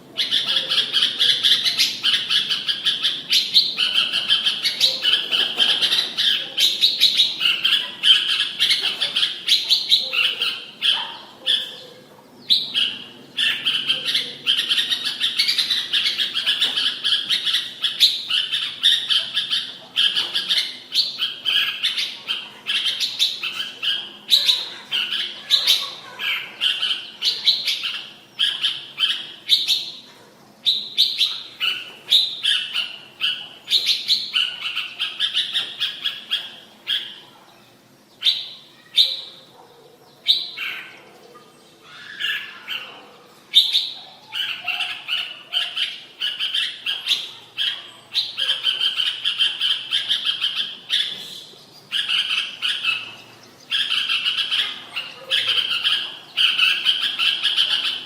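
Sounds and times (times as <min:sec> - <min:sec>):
bird singing warbling phrases: 0:00.0 - 0:58.0.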